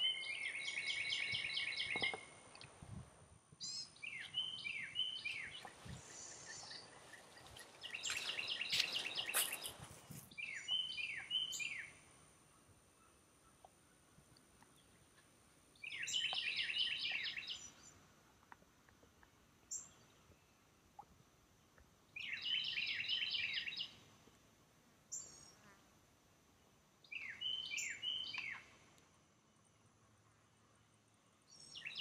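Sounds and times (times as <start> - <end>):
songbird singing: 0.0 - 2.8, 3.6 - 24.1, 25.0 - 25.7, 27.0 - 29.8, 30.5 - 32.0
quiet background noise: 0.0 - 32.0.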